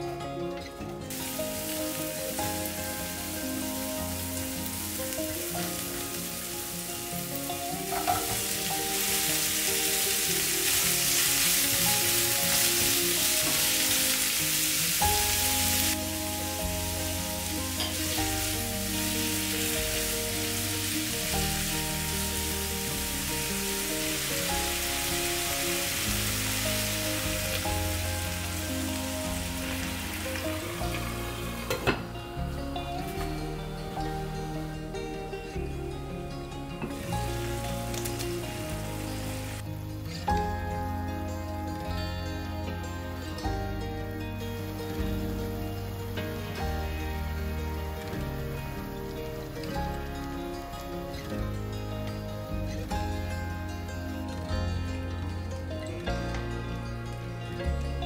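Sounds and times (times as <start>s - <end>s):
soft background music: 0.0s - 58.0s
vegetables sizzling in frying pan: 1.1s - 35.6s, 36.4s - 43.5s, 44.2s - 53.4s.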